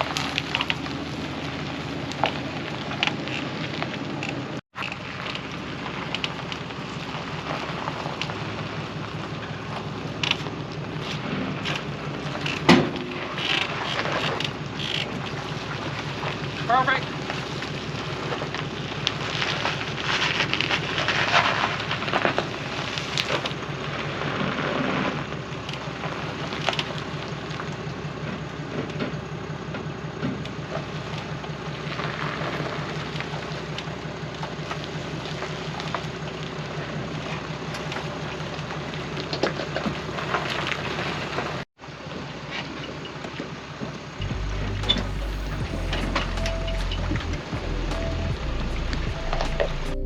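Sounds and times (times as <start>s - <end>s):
engine running with low pulse: 0.0s - 42.2s, 43.4s - 50.0s.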